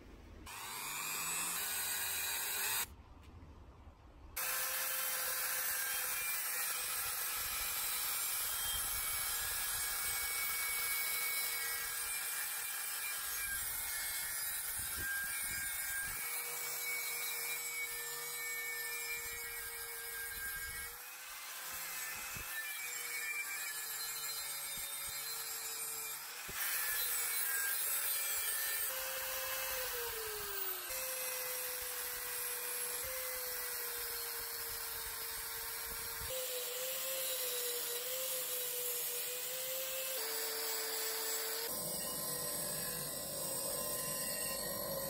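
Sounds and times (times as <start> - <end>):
angle grinder grinding metal: 0.5 - 2.9, 4.4 - 45.0.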